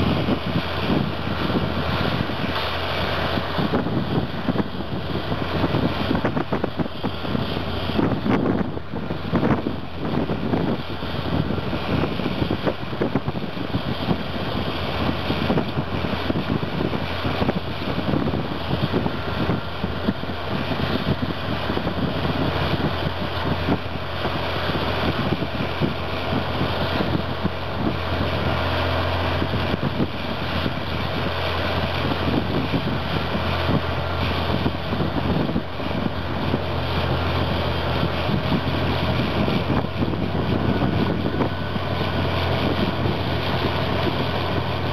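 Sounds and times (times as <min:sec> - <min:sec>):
bulldozer diesel engine under load: 0:00.0 - 0:44.9.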